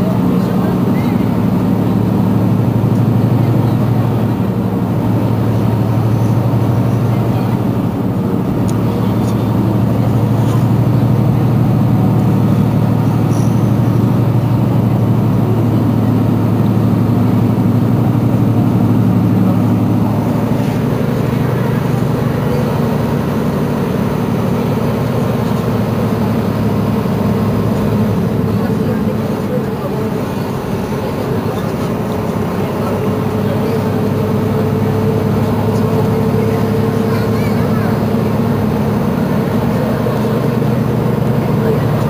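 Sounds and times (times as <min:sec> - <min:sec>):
bus engine idling: 0:00.0 - 0:42.0.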